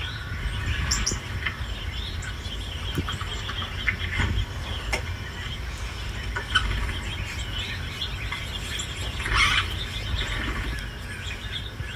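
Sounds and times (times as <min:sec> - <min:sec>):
small birds chirping: 0:00.0 - 0:11.9
steady low rumble: 0:00.0 - 0:11.9.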